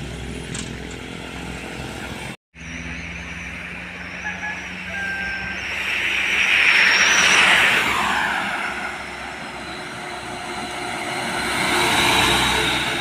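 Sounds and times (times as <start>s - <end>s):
vehicle approaching: 0.0s - 13.0s
vehicle passing by: 1.2s - 13.0s.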